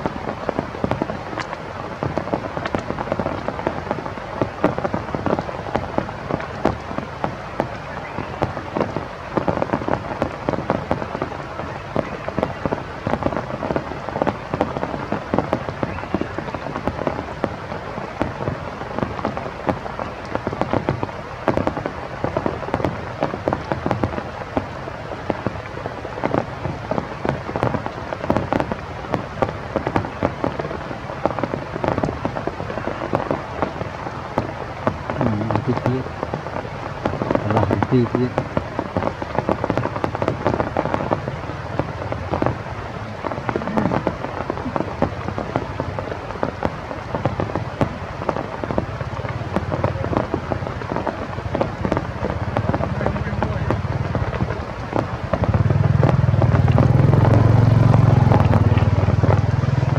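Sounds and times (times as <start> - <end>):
rain falling: 0.0 - 59.9
raindrops spattering on surfaces: 0.0 - 59.9.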